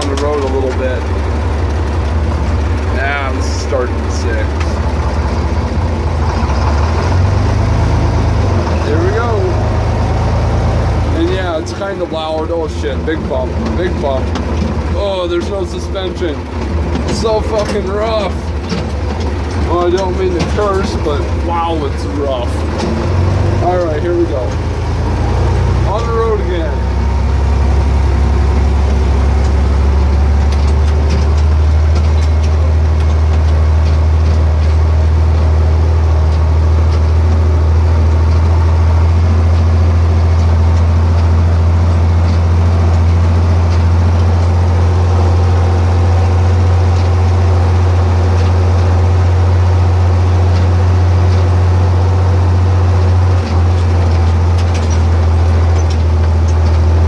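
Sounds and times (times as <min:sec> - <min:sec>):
tractor engine low drone: 0:00.0 - 0:57.0.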